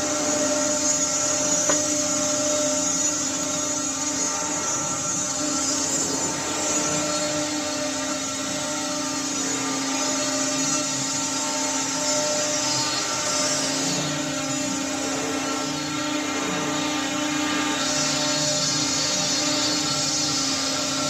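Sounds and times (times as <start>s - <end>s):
cnc router whining: 0.0s - 21.0s.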